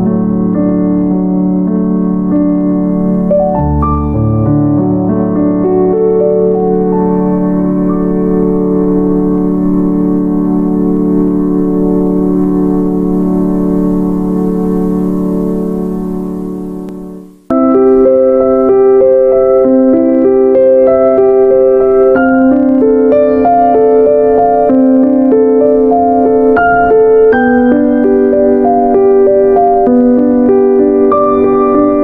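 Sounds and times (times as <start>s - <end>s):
background music: 0.0s - 32.0s
keyboard tune: 0.0s - 32.0s.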